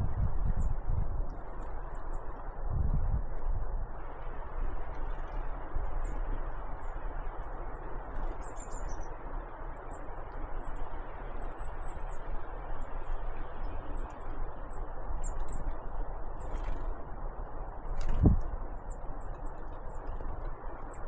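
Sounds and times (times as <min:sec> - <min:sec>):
low background rush: 0:00.0 - 0:21.0.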